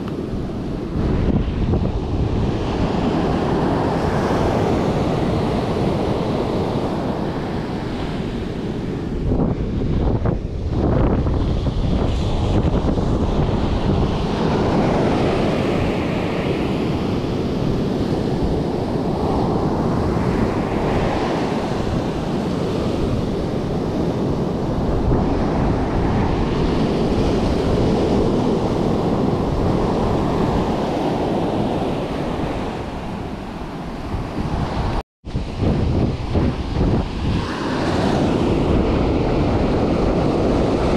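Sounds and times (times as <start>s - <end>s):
surf washing onto beach: 0.0s - 40.9s
wind buffeting microphone: 0.0s - 40.9s.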